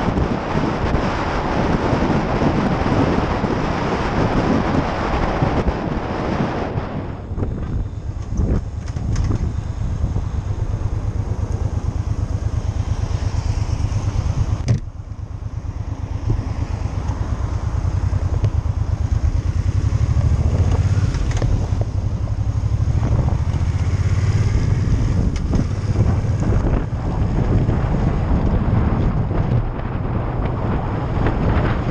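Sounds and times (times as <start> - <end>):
wind noise: 0.0 - 31.9.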